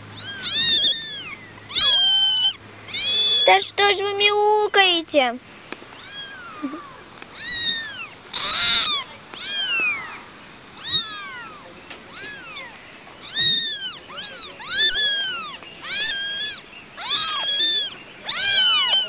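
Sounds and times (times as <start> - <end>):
kittens mewing: 0.0 - 4.4, 5.9 - 19.0.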